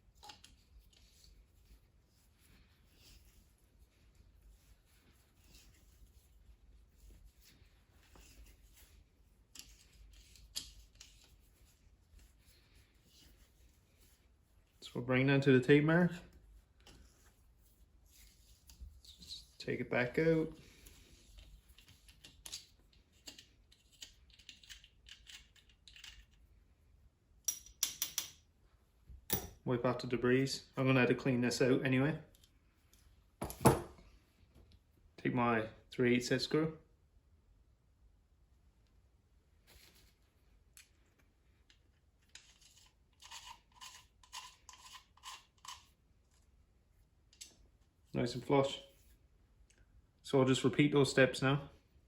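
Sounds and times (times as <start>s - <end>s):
faint handling sounds: 0.0s - 27.0s, 28.5s - 35.1s, 38.6s - 52.0s.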